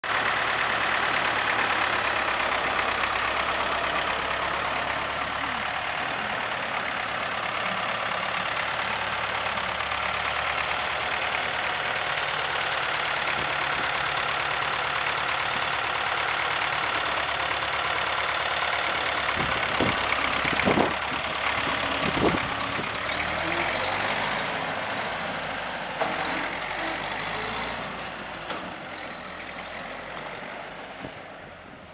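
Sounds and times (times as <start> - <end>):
tractor diesel engine clatter: 0.0 - 31.9.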